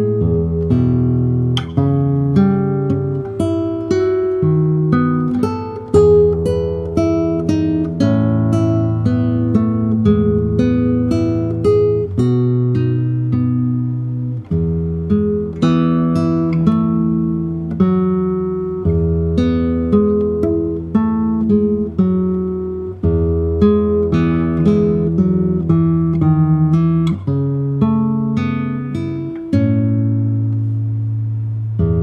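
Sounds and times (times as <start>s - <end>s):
fingerpicked acoustic guitar: 0.0s - 32.0s.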